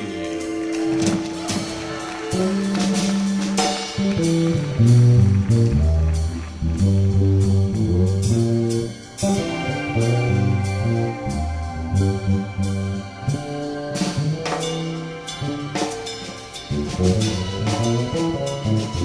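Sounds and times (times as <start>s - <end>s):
drum kit and cymbal hits: 0.0s - 19.0s
electric bass line: 2.3s - 15.8s, 16.7s - 19.0s.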